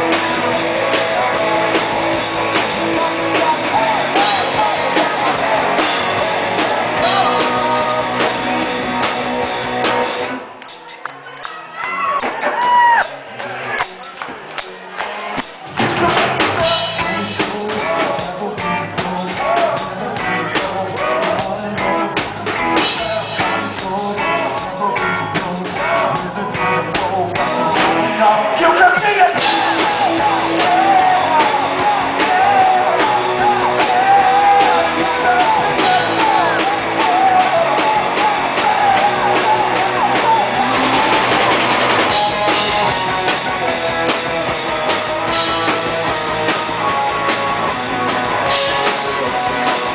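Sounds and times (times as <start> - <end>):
person singing: 0.0 - 10.3, 16.0 - 49.9
electric guitar: 0.0 - 49.9
rock band playing live: 0.0 - 49.9.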